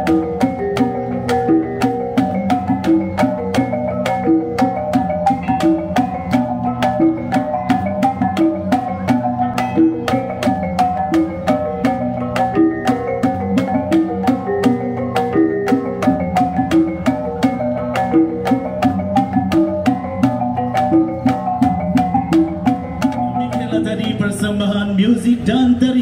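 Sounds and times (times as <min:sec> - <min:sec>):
small gongs ringing melody: 0:00.0 - 0:25.7
drum and hanging gongs beat: 0:00.0 - 0:26.0.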